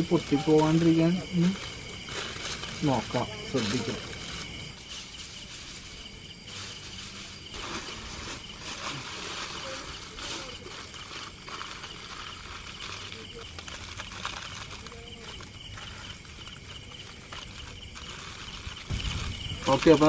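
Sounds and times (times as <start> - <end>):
foil and leaf crinkling: 0.0 - 20.0.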